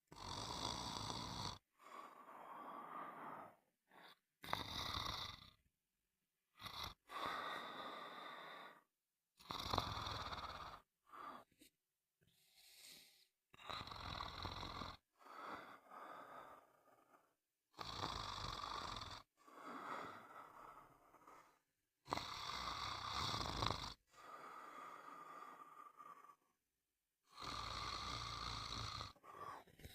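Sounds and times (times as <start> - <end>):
snoring: 0.1 - 5.7, 6.5 - 11.5, 12.9 - 26.6, 27.2 - 29.9.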